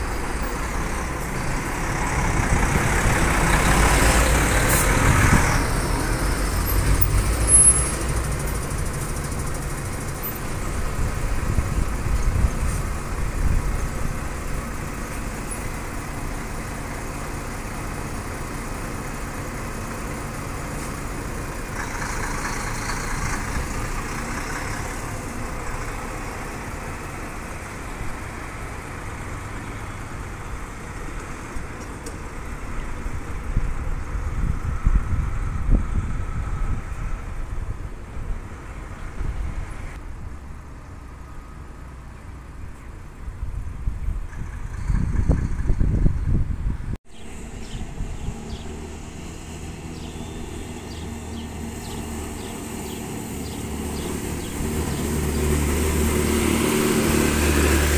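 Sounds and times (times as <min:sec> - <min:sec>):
bus engine rumble: 0:00.0 - 0:57.9
traffic rumble: 0:00.0 - 0:57.9.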